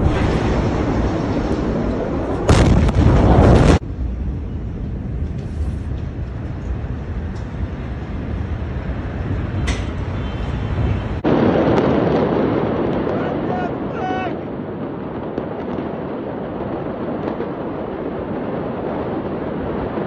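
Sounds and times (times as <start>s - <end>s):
loud explosion boom: 0.0s - 20.0s
low rumble: 0.0s - 20.0s.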